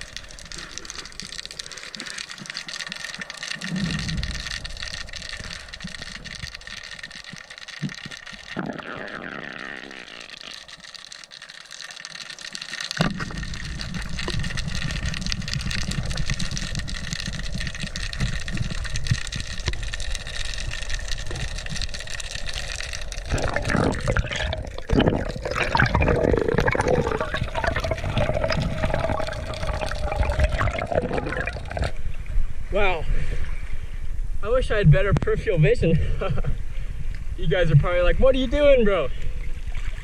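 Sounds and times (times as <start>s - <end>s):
muffled underwater rush: 0.0s - 11.4s, 12.3s - 40.0s.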